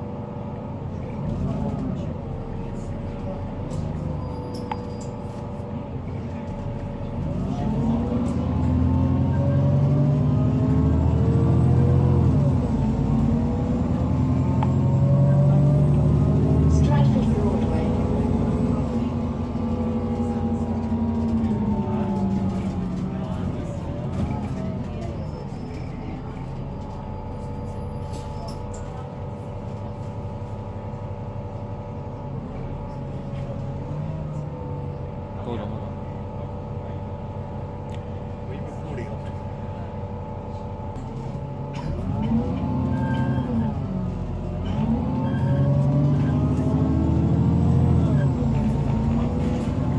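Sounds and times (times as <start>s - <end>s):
bus diesel engine pulling away: 0.0s - 49.9s.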